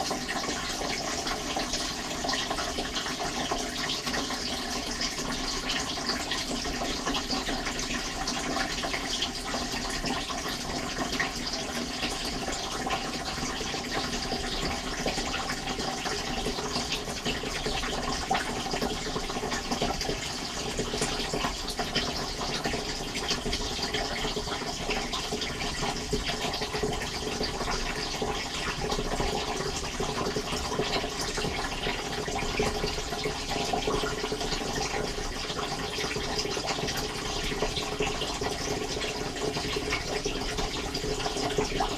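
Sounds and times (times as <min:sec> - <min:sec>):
dishwasher water splashing: 0:00.0 - 0:41.9.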